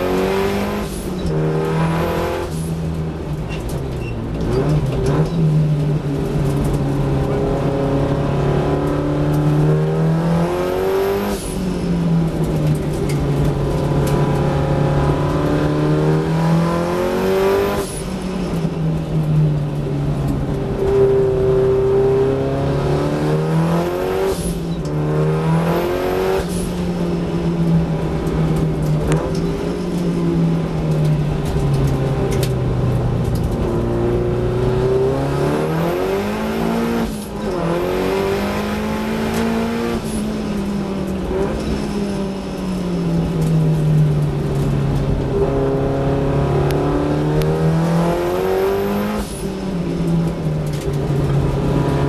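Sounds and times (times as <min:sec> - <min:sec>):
race car engine revving: 0:00.0 - 0:19.2, 0:19.8 - 0:52.0.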